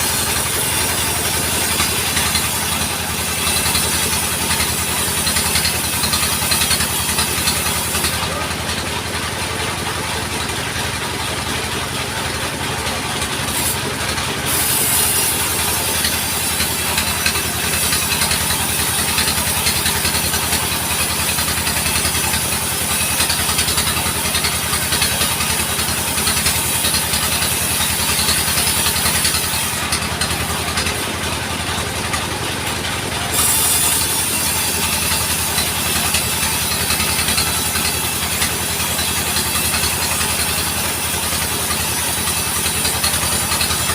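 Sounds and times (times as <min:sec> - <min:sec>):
saw cutting wood hiss: 0:00.0 - 0:09.4, 0:13.1 - 0:43.9
sawmill engine running: 0:00.0 - 0:43.9.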